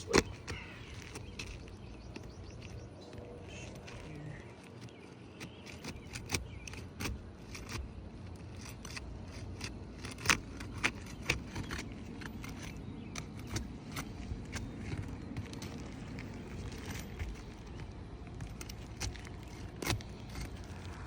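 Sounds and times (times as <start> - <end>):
hand tool clicking and scraping: 0.0 - 21.0.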